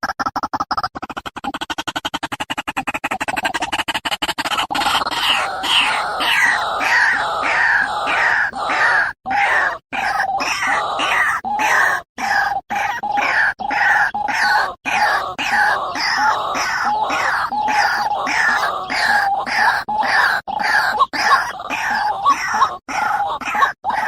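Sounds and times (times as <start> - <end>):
bird stutter of short pulses: 0.0 - 24.0
bird calling harsh notes: 4.4 - 24.0.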